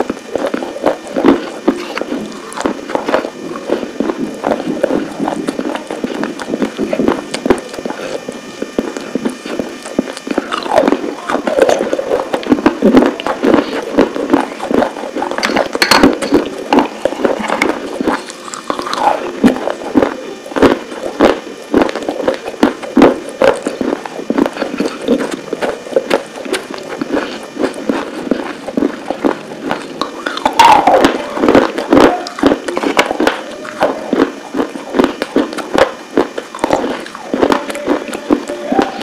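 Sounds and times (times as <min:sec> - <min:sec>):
crunchy chewing: 0:00.0 - 0:39.0.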